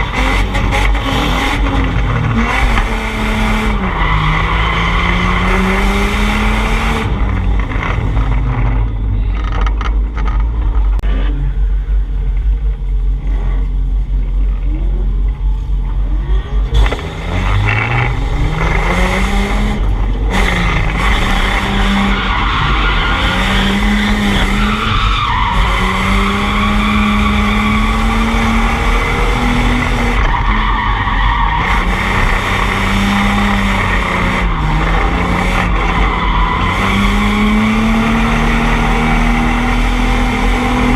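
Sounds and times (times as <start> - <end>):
tires squealing: 0.0 - 11.5, 16.6 - 40.9
car engine revving: 0.0 - 40.9.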